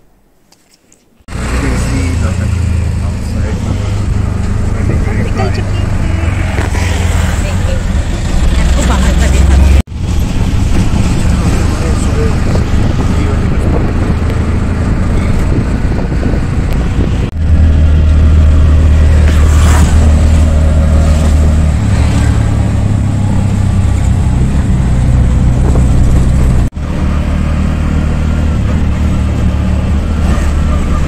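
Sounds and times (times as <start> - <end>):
road and wind noise: 1.2 - 31.0
auto-rickshaw engine droning: 1.3 - 31.0.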